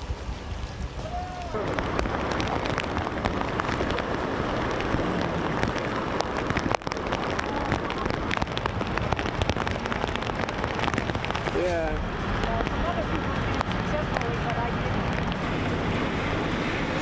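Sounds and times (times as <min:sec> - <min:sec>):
heavy rain: 0:00.0 - 0:17.0
raindrops ticking close: 0:00.0 - 0:17.0.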